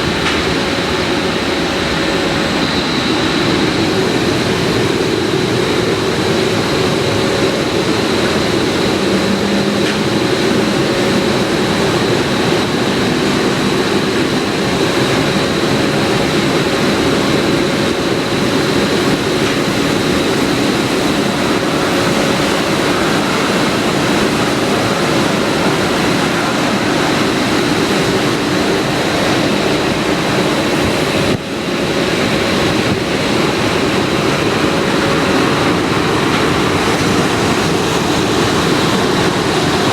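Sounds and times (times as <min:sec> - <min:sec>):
car wash rush of air and water: 0:00.0 - 0:39.9
high whine: 0:00.0 - 0:39.9.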